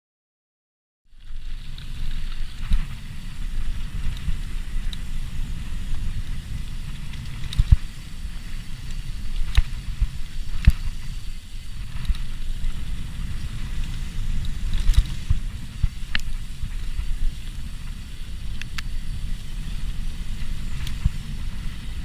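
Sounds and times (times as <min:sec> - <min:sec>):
bike rattling over rough trail: 0:01.1 - 0:22.0
wind rumbling on microphone: 0:01.1 - 0:22.0.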